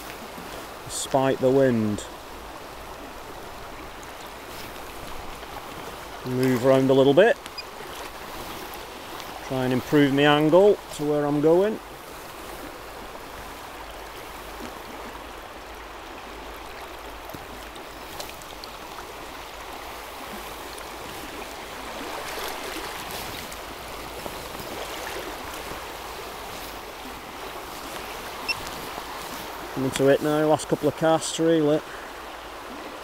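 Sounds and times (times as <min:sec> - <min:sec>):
river rushing over stones: 0:00.0 - 0:33.0.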